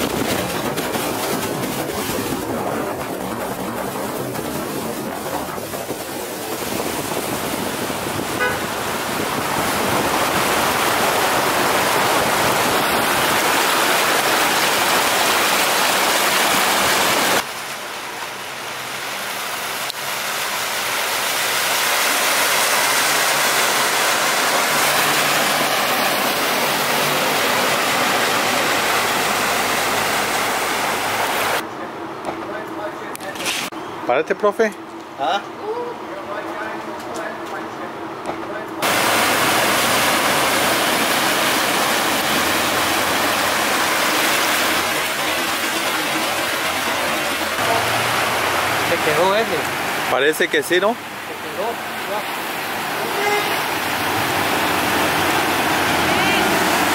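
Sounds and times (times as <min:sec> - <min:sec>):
floodwater rushing against truck: 0:00.0 - 0:33.8, 0:38.8 - 0:56.9.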